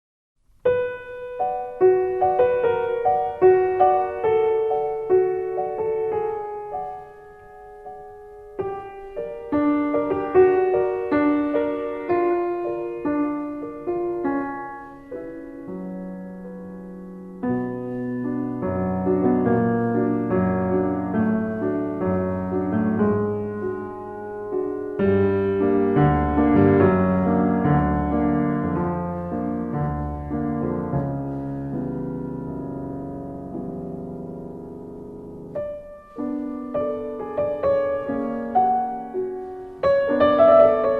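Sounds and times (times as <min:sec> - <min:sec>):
slow piano melody: 0:00.4 - 0:40.9.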